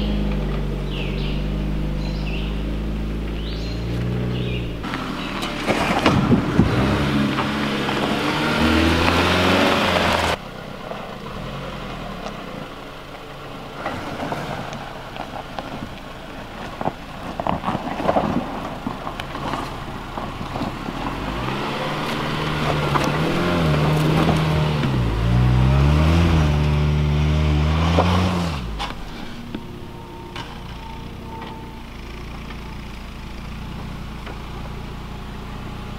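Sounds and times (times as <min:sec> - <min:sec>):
car engine revving: 0:00.0 - 0:35.9
tyres crunching over dirt: 0:00.0 - 0:35.9.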